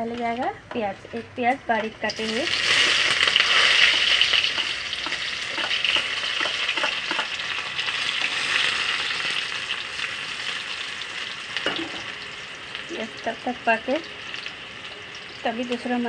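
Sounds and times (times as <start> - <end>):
onion sizzling in oil: 1.6 - 16.0.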